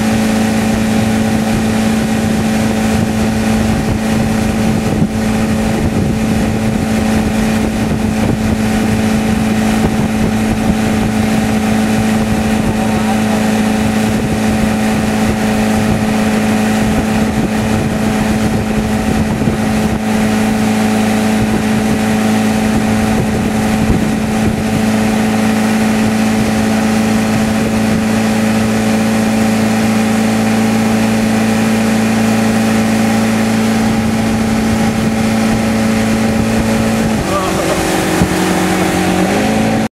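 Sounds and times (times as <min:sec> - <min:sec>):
motorboat engine droning: 0:00.0 - 0:39.9
water rushing in boat wake: 0:00.0 - 0:39.9.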